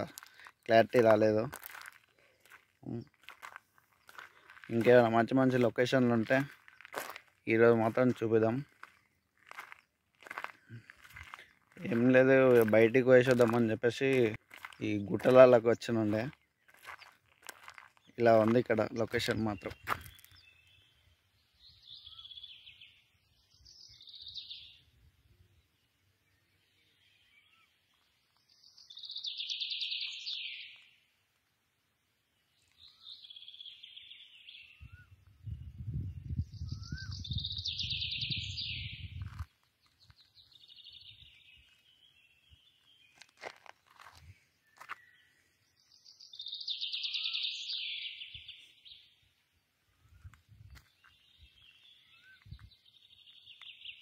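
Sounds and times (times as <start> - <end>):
bird singing: 0.0 - 54.0.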